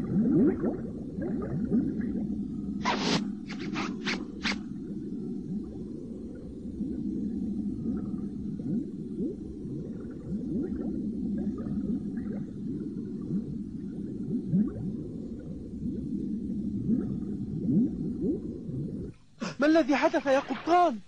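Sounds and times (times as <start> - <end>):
low steady rumble: 0.0 - 3.5, 4.2 - 21.0.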